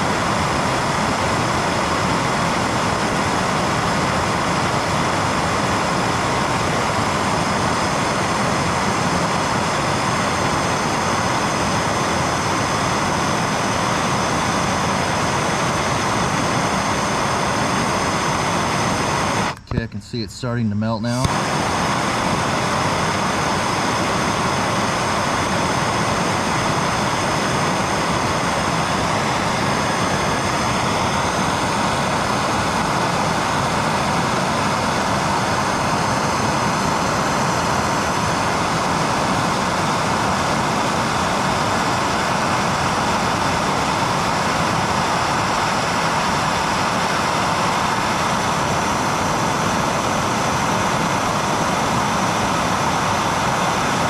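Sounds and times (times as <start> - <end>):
gas torch hissing: 0.0 - 20.3, 21.1 - 54.0.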